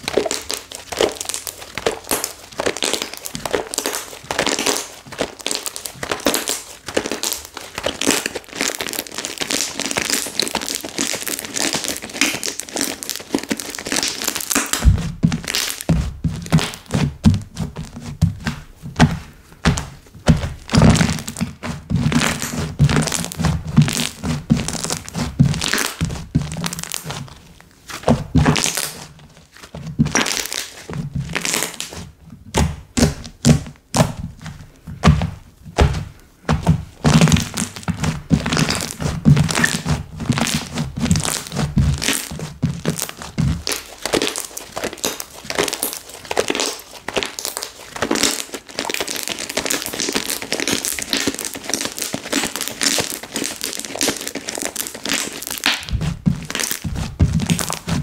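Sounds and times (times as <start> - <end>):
slime squished by hand: 0.0 - 58.0.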